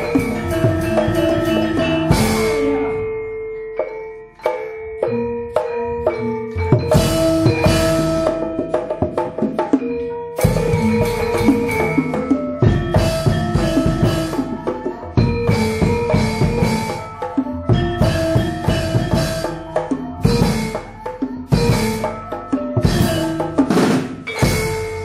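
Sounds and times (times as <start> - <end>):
hand-drum strokes: 0.0 - 25.0
metallophone and gong-chime tones: 0.0 - 25.0.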